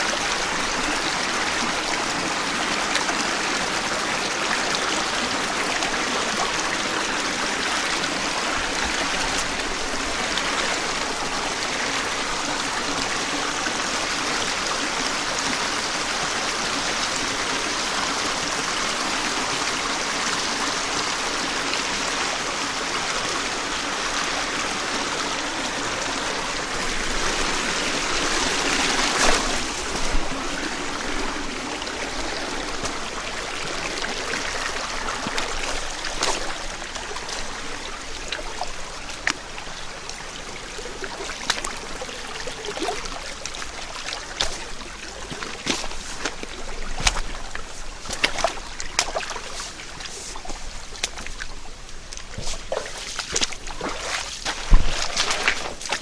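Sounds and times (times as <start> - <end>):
stream running over rocks: 0.0 - 56.0
water splashes and drips: 0.0 - 56.0.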